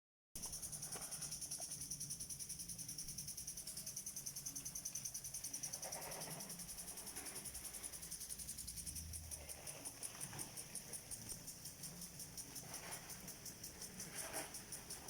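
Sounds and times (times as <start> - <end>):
insects trilling: 0.4 - 15.0.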